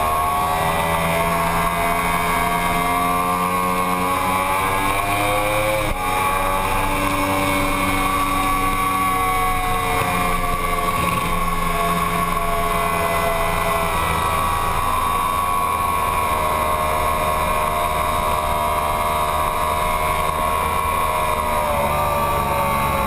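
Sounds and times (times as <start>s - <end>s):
motorcycle engine at high revs: 0.0s - 23.0s.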